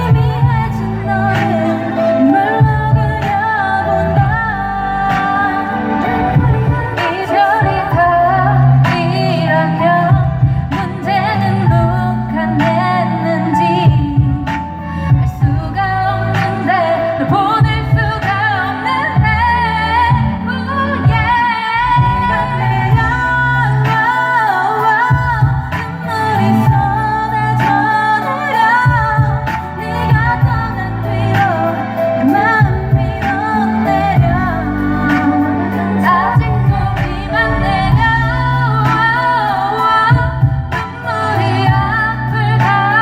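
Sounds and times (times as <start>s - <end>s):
backing track with heavy bass: 0.0s - 43.0s
woman singing pop song: 0.0s - 43.0s.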